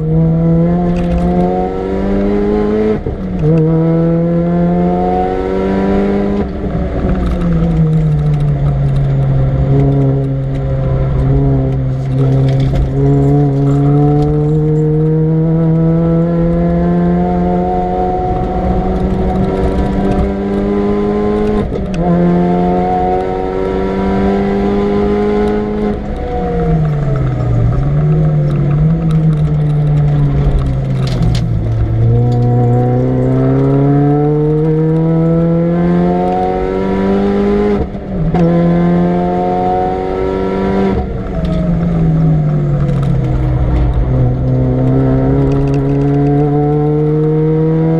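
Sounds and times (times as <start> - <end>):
car engine revving: 0.0 - 47.9.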